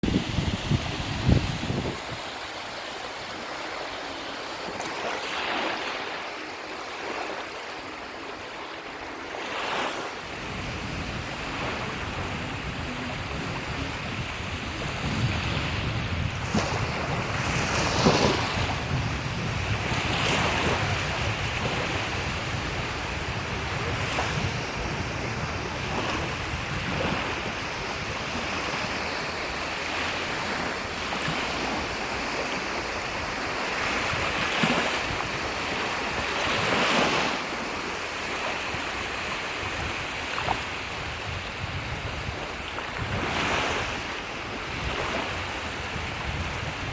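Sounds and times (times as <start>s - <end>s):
wind buffeting microphone: 0.0s - 6.3s, 9.7s - 46.9s
sea waves washing onto shore: 0.0s - 46.9s.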